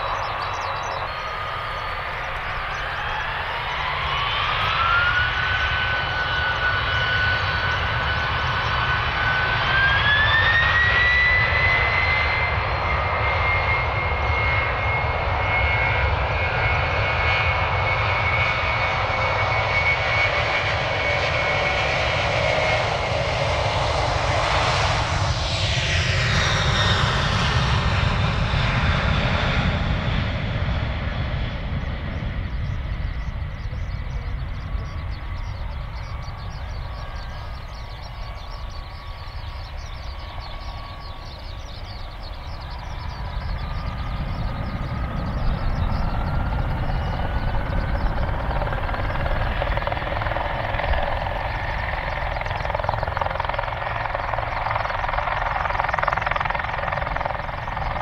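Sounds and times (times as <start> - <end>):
jet engines at takeoff power: 0.0 - 58.0.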